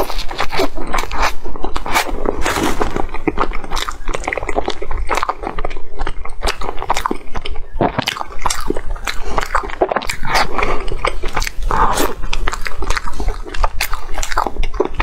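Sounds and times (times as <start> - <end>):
mouth smacks and clicks: 0.0 - 15.0
person chewing: 0.0 - 15.0.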